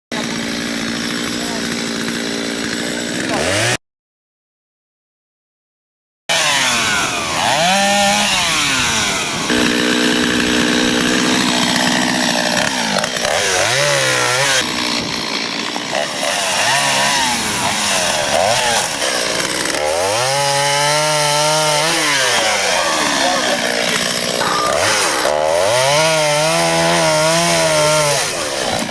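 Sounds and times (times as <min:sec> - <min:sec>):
chainsaws revving: 0:00.1 - 0:03.8, 0:06.3 - 0:28.9.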